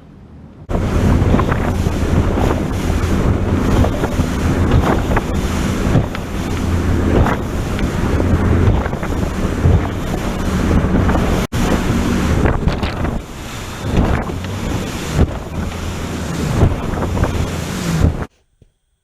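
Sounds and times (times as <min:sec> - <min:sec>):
outboard motor hum: 0:00.2 - 0:18.3
wind buffeting microphone: 0:00.3 - 0:18.3
water rushing past: 0:00.7 - 0:18.3.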